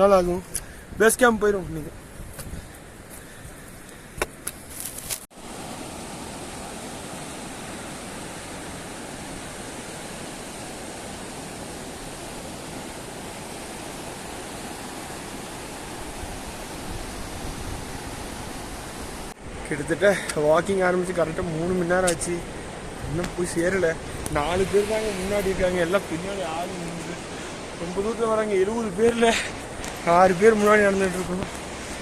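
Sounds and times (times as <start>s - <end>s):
flowing water rushing: 5.3s - 32.0s.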